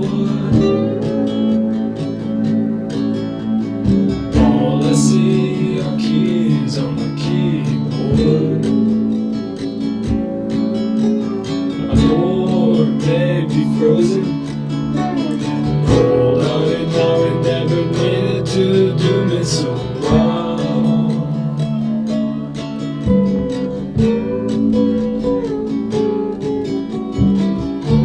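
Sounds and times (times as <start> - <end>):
lo-fi rock music: 0.0 - 28.0
strummed acoustic guitar: 0.0 - 28.0.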